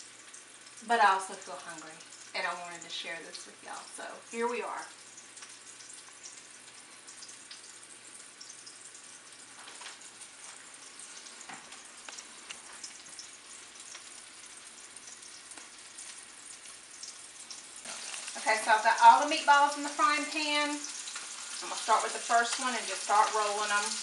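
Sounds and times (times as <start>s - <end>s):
meatballs sizzling in oil: 0.0s - 24.0s.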